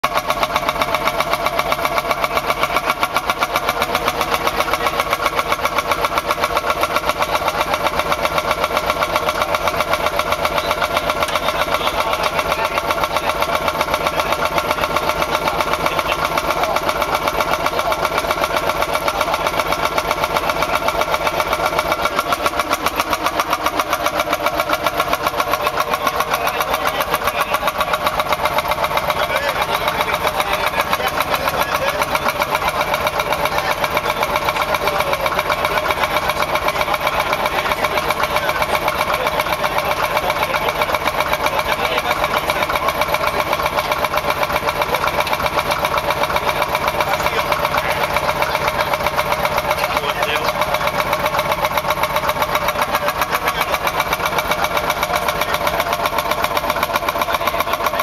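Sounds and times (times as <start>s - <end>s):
tractor engine exhaust pulses: 0.0s - 58.0s.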